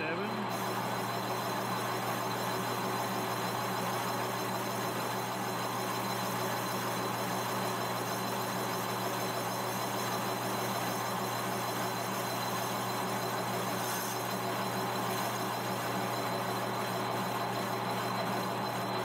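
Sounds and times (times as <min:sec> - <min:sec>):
lathe running: 0:00.0 - 0:19.0.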